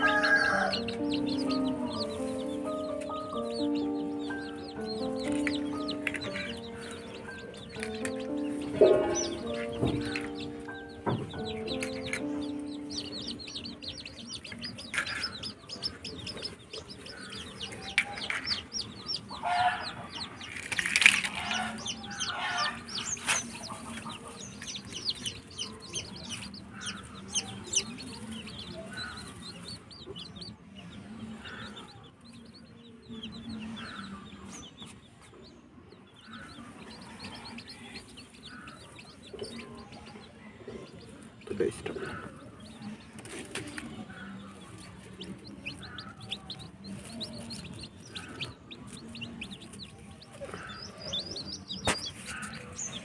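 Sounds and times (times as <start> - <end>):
chickens clucking: 0.0 - 53.0
chicks chirping: 0.0 - 53.0.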